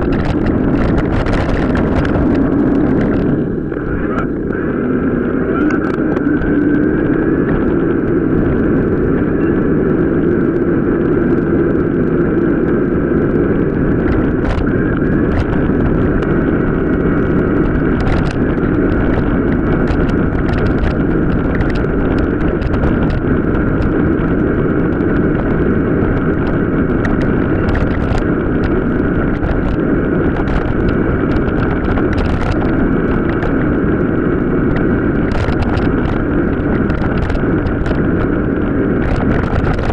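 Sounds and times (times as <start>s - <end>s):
bike clicks and rattles: 0.0s - 3.4s, 5.6s - 39.9s
tyre rumble on rough track: 0.0s - 39.9s
wind on microphone: 0.0s - 39.9s.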